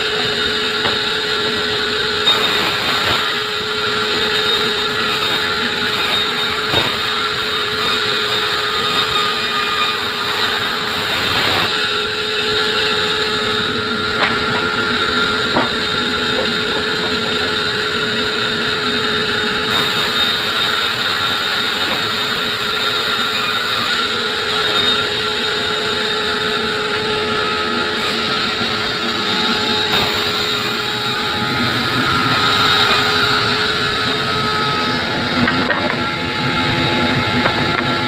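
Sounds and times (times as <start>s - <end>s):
sawmill saw whining: 0.0s - 38.0s.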